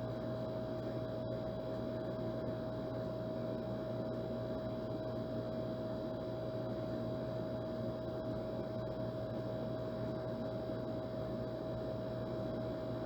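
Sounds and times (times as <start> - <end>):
air conditioner running: 0.0 - 13.0.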